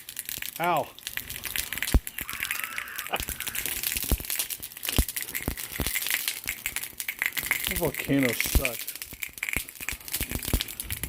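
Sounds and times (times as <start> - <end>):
crinkling and rustling materials: 0.0 - 11.0.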